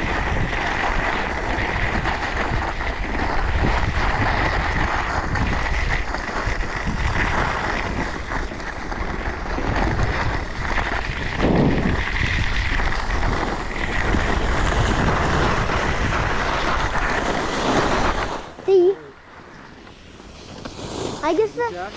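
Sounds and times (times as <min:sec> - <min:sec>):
wind over microphone: 0:00.0 - 0:19.9
low wind buffet: 0:00.0 - 0:21.9
skis scraping over snow: 0:00.0 - 0:21.9.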